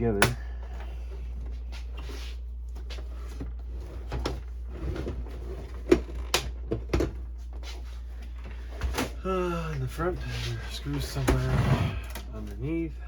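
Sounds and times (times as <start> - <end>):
dehumidifier humming: 0.0 - 13.0.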